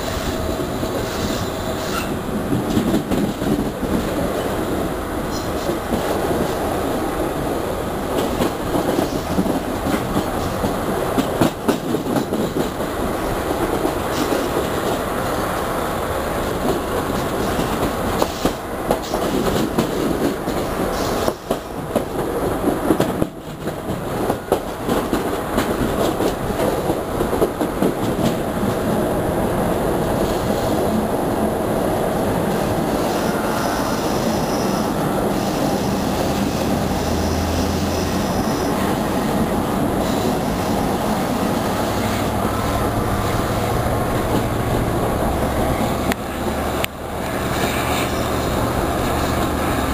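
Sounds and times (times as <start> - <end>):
clickety-clack over rail joints: 0.0 - 49.9
steel wheels rumbling on rail: 0.0 - 49.9.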